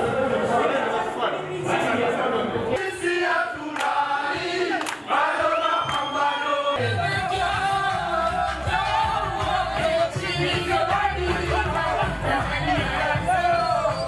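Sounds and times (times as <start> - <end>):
crowd singing and chanting: 0.0 - 14.0.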